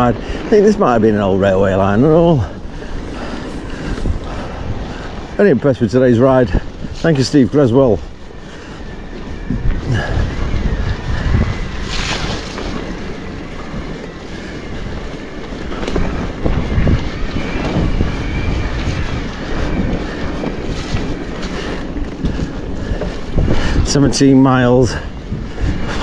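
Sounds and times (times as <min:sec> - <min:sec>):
tyres rumbling over stony track: 0:00.0 - 0:26.0
wind on microphone: 0:00.0 - 0:26.0.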